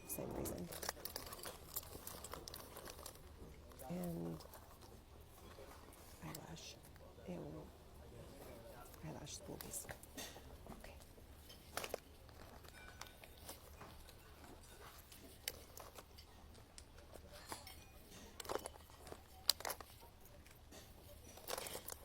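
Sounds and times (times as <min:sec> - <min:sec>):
small items clicking and knocking: 0:00.2 - 0:07.0, 0:08.8 - 0:22.0.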